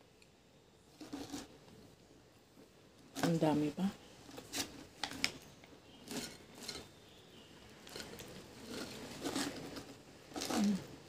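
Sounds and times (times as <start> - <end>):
chips rustling in cardboard tube: 0.9 - 1.9, 2.6 - 11.0.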